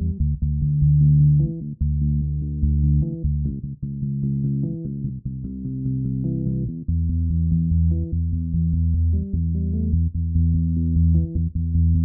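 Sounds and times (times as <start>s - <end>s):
keyboard bass line: 0.0s - 12.0s.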